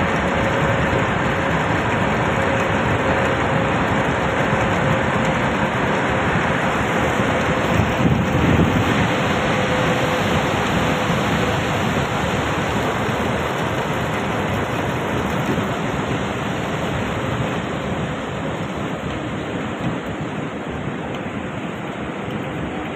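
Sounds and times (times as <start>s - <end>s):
turbulent river water rushing: 0.0s - 22.9s.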